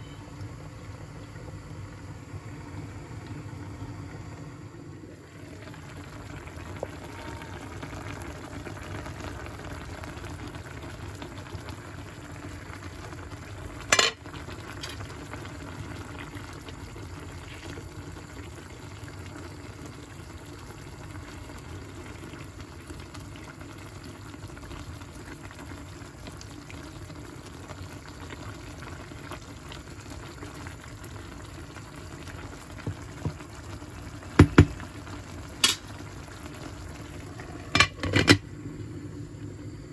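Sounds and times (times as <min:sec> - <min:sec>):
food sizzling and bubbling in pan: 0:00.0 - 0:39.9.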